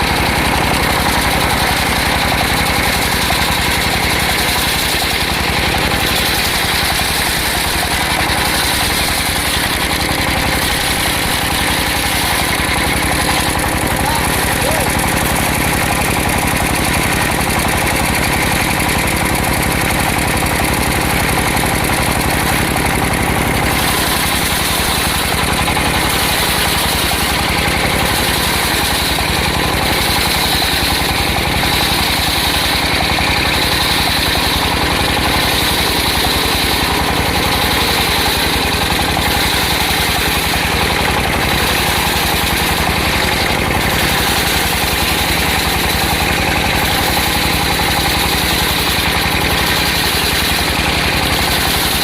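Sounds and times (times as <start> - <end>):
circular sawmill droning: 0.0 - 52.0.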